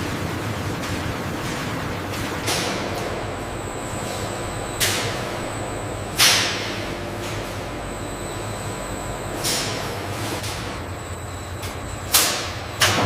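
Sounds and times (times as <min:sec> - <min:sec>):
factory machinery hum and whine: 0:00.0 - 0:13.0.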